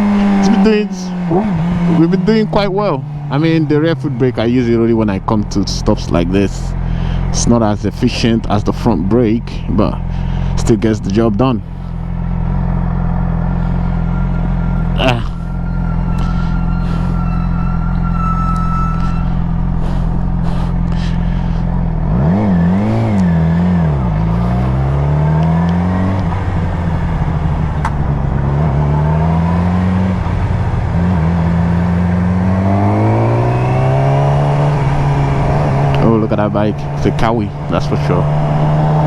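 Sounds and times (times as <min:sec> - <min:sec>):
motorcycle engine idling and revving: 0:00.0 - 0:39.0.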